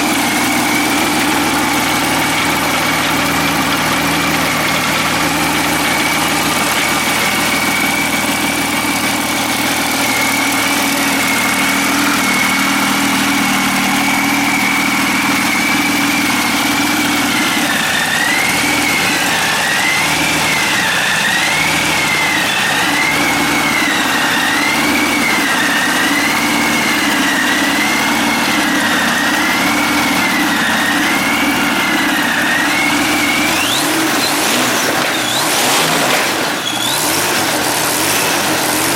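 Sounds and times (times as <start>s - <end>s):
aircraft engine running: 0.0s - 35.6s.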